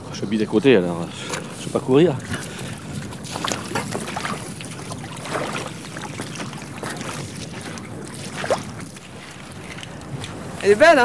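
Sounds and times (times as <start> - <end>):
wind on microphone: 0.0 - 11.0
footsteps squelching on wet mud: 1.0 - 11.0.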